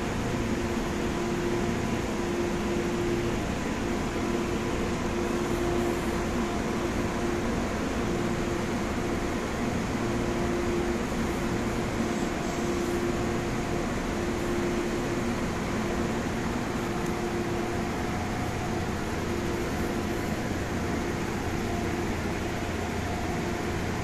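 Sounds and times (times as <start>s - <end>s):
air-conditioning and fan noise: 0.0s - 24.0s.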